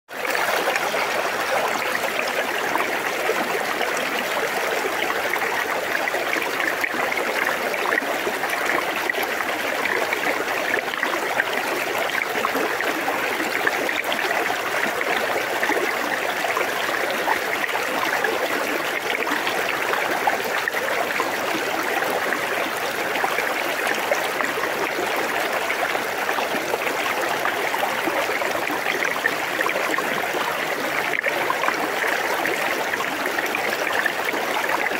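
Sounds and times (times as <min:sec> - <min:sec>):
river babbling around rocks: 0:00.1 - 0:34.9.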